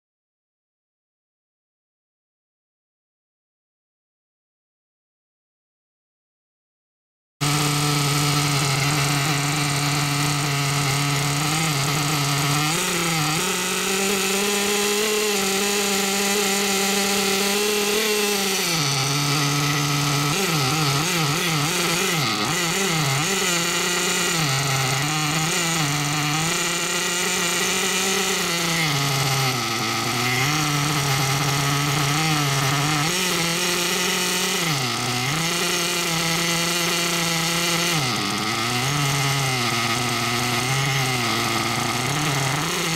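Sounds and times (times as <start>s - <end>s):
nitro engine running: 7.4s - 42.9s.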